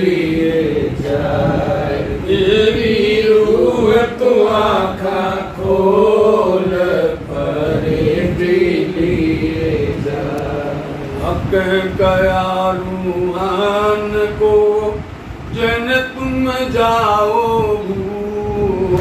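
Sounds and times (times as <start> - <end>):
man chanting a hymn: 0.0 - 19.0.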